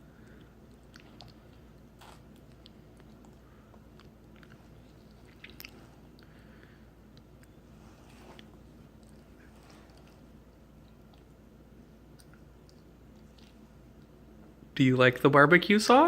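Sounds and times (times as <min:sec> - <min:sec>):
child chewing: 0:00.0 - 0:14.3.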